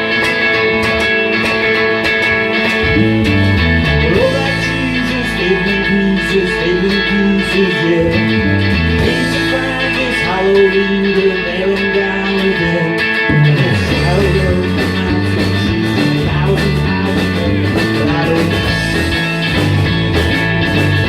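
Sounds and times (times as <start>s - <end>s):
bass line: 0.0s - 21.0s
live rock band playing: 0.0s - 21.0s.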